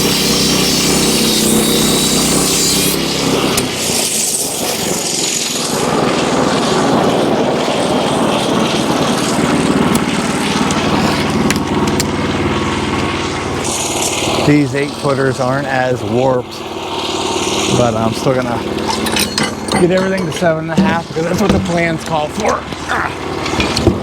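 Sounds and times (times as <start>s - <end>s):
band sawmill cutting wood: 0.0s - 24.0s
engine running steadily: 0.0s - 24.0s.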